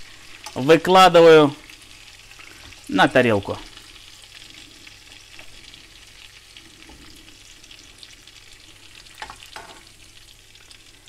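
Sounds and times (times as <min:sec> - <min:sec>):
prawns sizzling in frying pan: 0:00.0 - 0:11.0.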